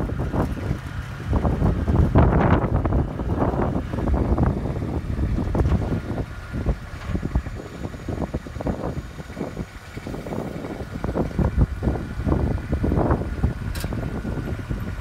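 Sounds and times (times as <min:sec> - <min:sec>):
diesel engine running: 0:00.0 - 0:15.0
wind buffeting microphone: 0:00.0 - 0:15.0.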